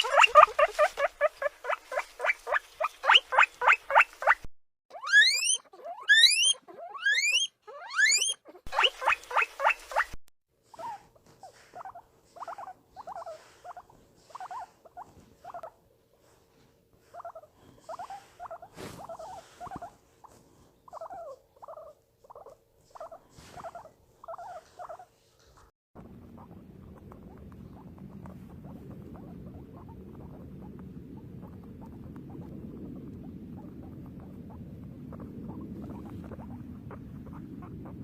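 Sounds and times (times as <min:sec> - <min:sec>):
guinea pig squeaking: 0:00.0 - 0:15.8, 0:17.0 - 0:38.0.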